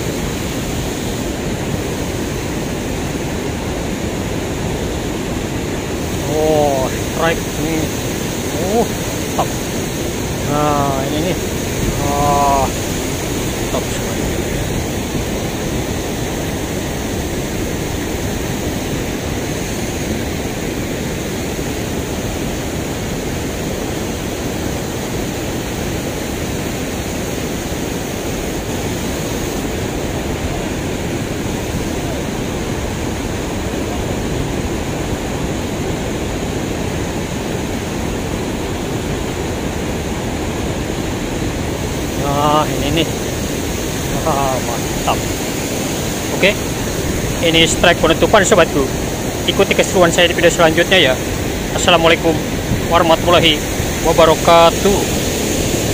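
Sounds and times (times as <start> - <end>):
water rushing over weir: 0.0 - 55.9.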